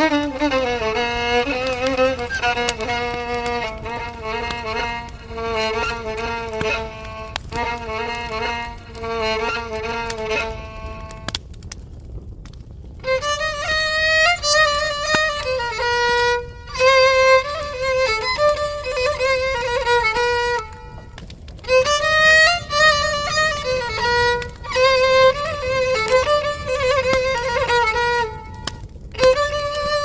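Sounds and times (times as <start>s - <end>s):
solo violin slow melody: 0.0s - 12.0s, 13.0s - 30.0s.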